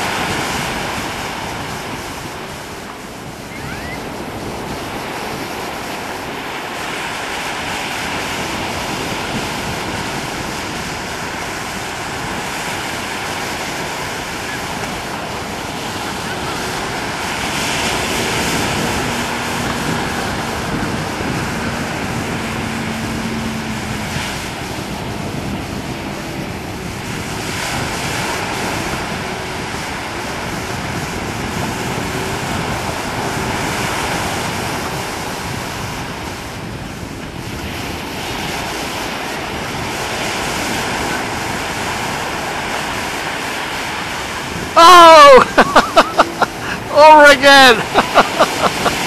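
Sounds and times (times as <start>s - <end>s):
wind buffeting microphone: 0.0s - 46.9s, 47.5s - 49.0s
choppy sea surf: 0.0s - 49.0s
faint engine hum: 7.6s - 47.0s.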